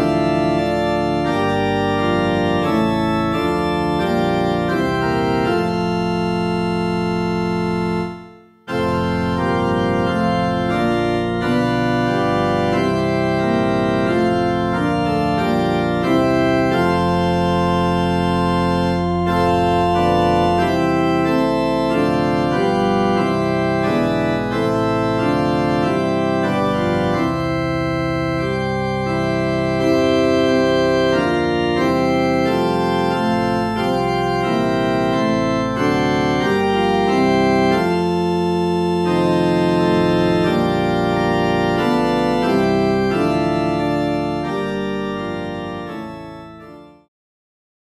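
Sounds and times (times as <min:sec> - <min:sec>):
organ chords: 0:00.0 - 0:47.1.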